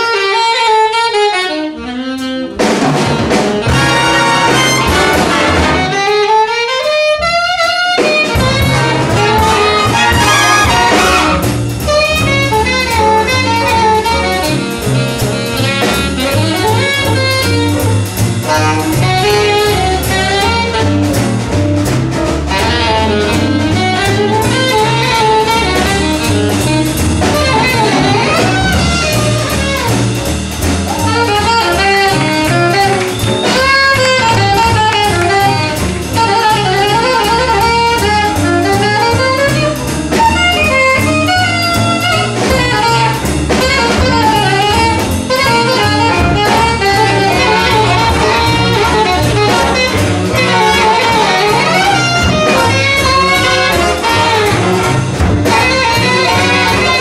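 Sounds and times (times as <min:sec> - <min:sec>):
jazz big band playing swing: 0:00.0 - 0:57.0
saxophone: 0:00.0 - 0:57.0.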